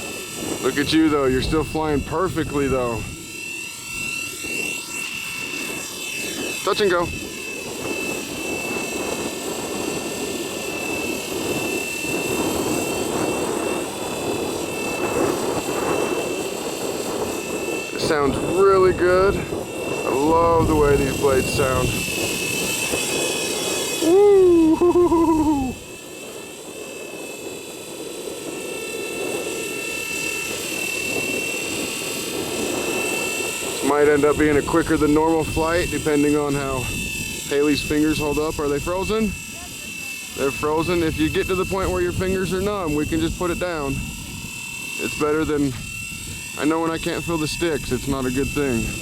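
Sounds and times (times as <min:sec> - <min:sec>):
high motor whine: 0:00.0 - 0:49.0.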